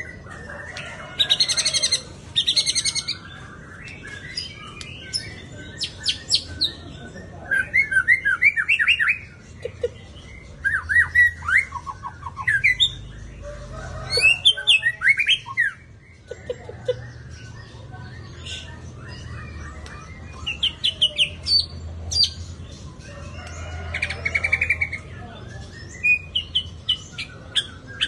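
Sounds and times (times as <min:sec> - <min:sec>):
bird singing: 0:00.0 - 0:28.0.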